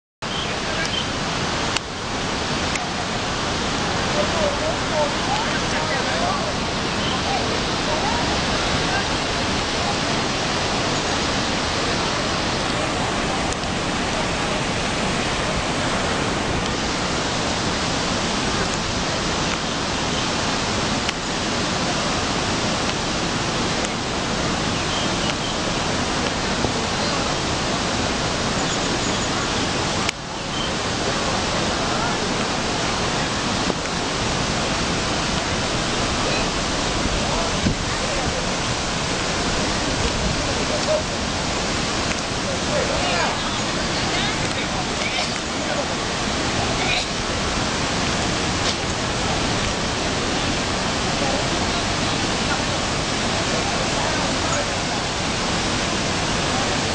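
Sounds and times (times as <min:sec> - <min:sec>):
river water rushing: 0:00.2 - 0:56.9.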